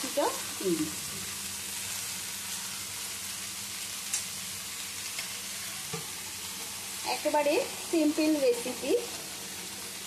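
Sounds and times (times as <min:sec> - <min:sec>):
leaves sizzling in hot oil: 0:00.0 - 0:10.0.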